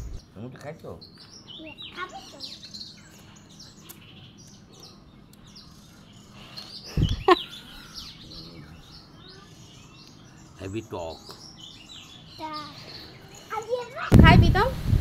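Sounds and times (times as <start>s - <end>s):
small birds chirping: 0.0s - 14.7s.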